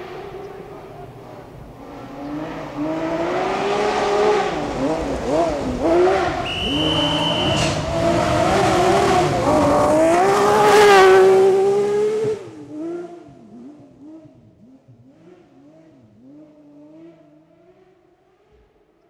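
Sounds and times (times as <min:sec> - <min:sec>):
rally car engine revving: 0:00.0 - 0:18.8.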